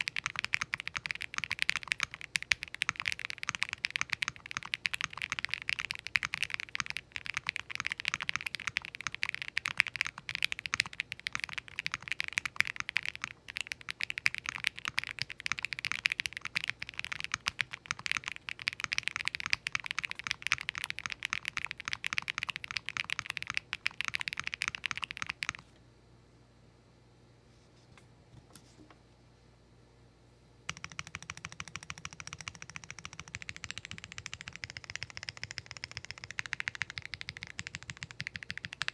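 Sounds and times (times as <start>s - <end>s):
typing on mechanical keyboard: 0.0s - 25.6s, 30.7s - 38.9s.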